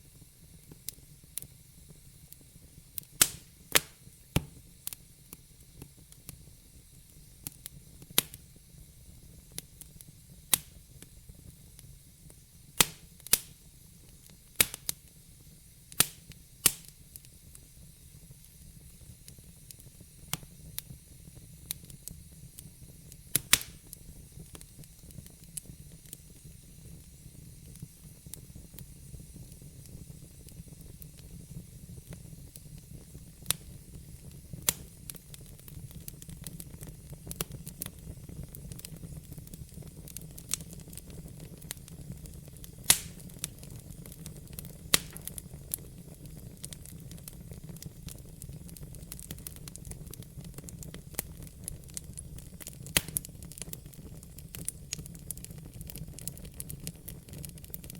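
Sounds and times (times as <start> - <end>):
low rumble and soft hiss: 0.0 - 57.8
fire crackling with pops: 0.0 - 57.9.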